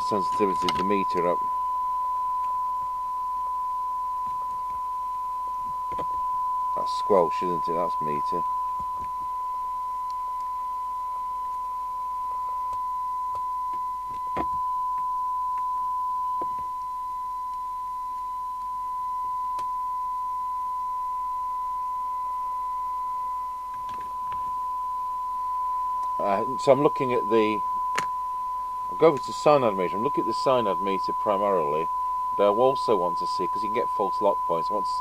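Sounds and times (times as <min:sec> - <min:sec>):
steady test tone: 0:00.0 - 0:35.0.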